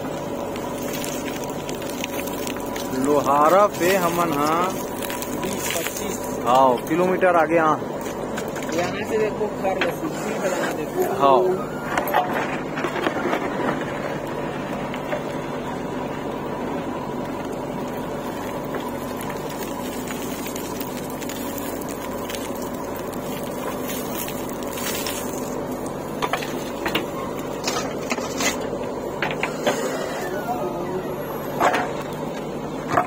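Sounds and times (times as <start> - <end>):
diesel engine running under load: 0.0 - 33.0.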